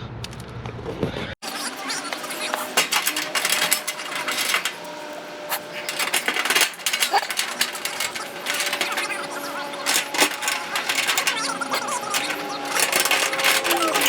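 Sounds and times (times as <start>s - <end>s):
metal parts clinking: 1.4s - 14.0s.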